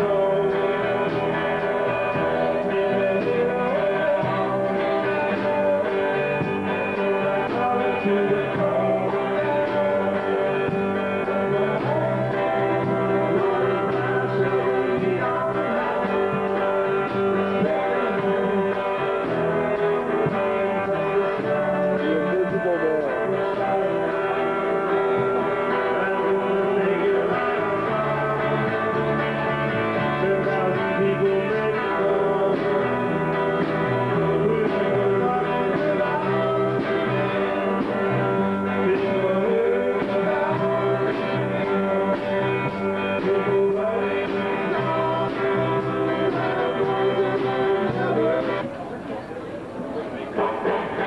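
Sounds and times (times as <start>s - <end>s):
bass line: 0.0s - 48.6s
drum kit: 0.0s - 48.7s
electric guitars ringing: 0.0s - 51.0s.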